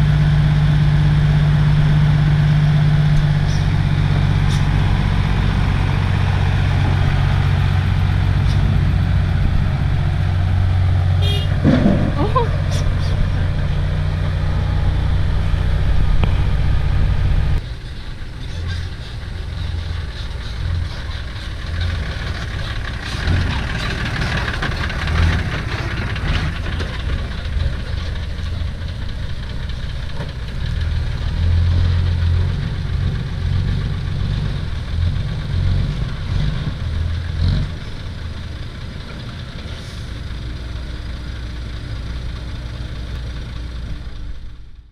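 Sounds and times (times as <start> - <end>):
diesel engines rumbling: 0.0 - 44.9.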